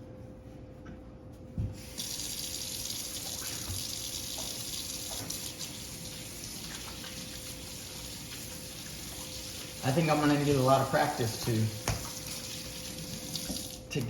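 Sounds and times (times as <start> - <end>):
hands washing under water: 1.8 - 13.8
tap water running: 1.8 - 14.0.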